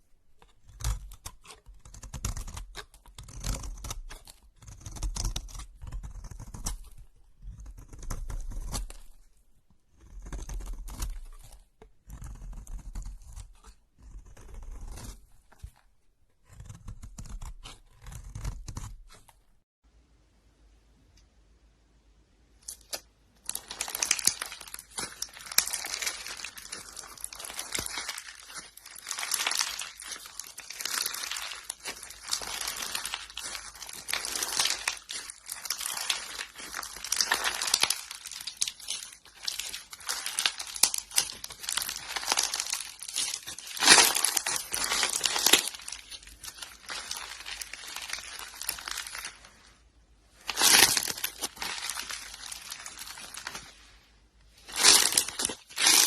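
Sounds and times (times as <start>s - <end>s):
crackling and crunching material: 0.0s - 19.7s, 22.4s - 56.0s.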